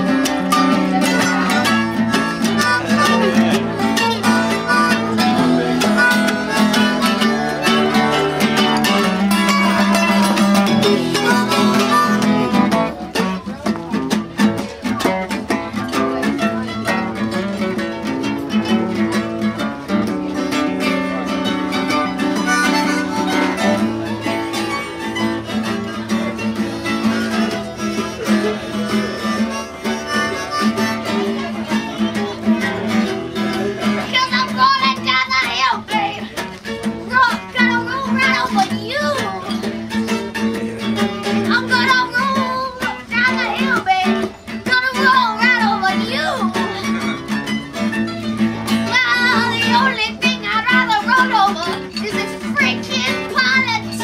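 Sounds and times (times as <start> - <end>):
jug band playing blues: 0.0 - 54.0.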